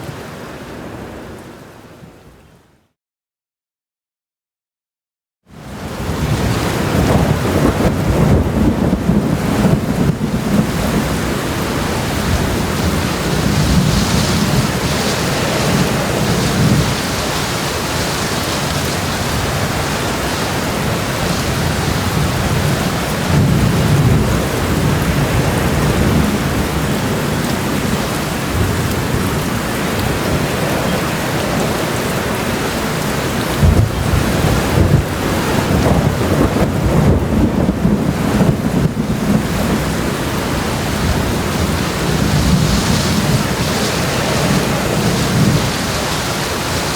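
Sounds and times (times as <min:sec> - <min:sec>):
heavy rain shower: 0:00.0 - 0:02.2, 0:05.5 - 0:46.9.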